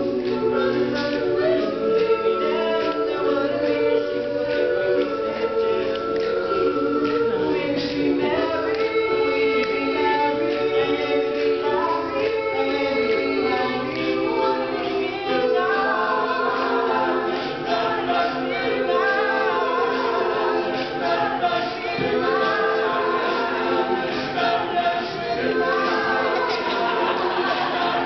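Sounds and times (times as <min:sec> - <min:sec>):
male a cappella group singing: 0:00.0 - 0:28.0.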